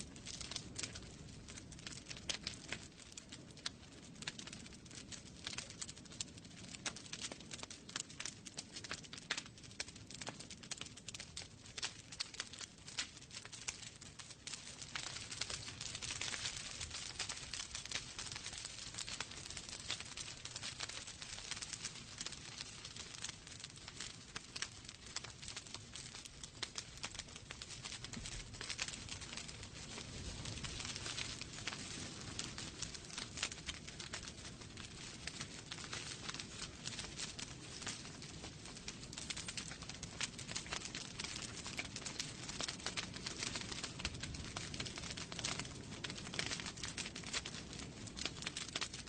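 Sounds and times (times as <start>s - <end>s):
logs crackling and popping: 0.0s - 49.0s.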